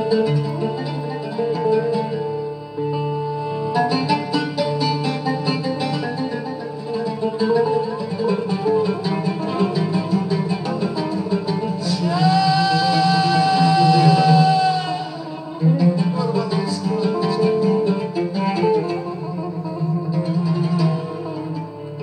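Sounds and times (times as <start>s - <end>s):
low accompaniment: 0.0s - 22.0s
plucked string instruments: 0.0s - 22.0s.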